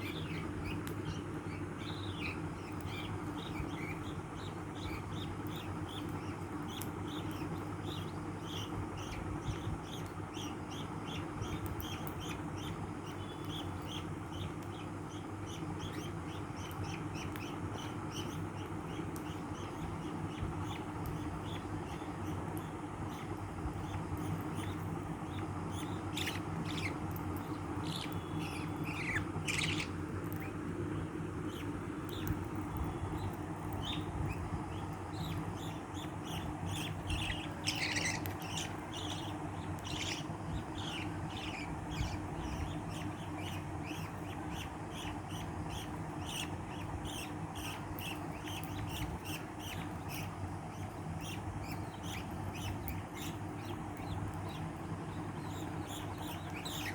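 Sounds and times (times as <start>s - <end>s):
low steady hum: 0.0s - 56.9s
small pets chirping and squeaking: 0.0s - 56.9s.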